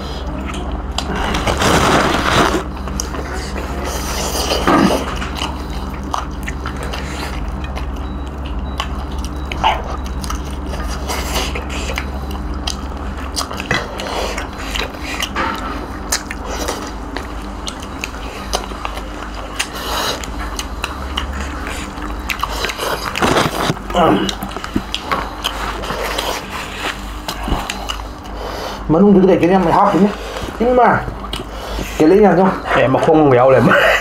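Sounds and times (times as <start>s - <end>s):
people biting and chewing: 0.0s - 34.0s
steady low hum: 0.0s - 34.0s.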